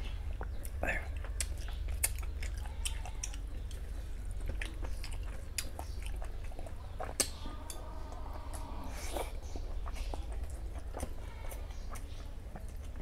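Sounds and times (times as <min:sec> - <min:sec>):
steady low hum: 0:00.0 - 0:13.0
fingers squishing food: 0:00.1 - 0:13.0.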